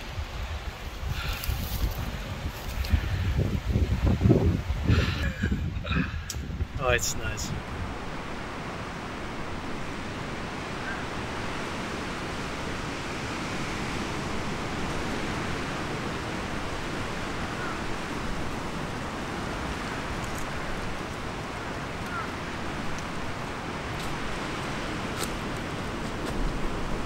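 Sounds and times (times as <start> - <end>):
wind rushing through forest: 0.0 - 27.0.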